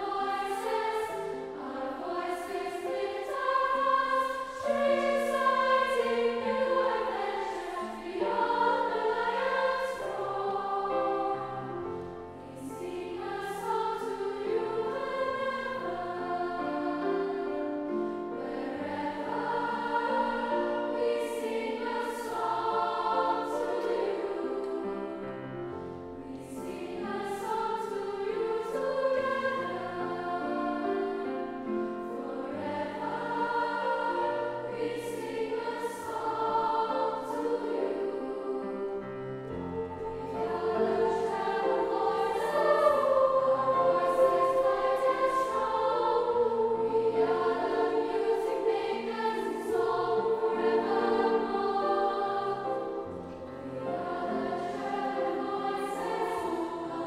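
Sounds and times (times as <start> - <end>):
treble choir singing: 0.0 - 57.0.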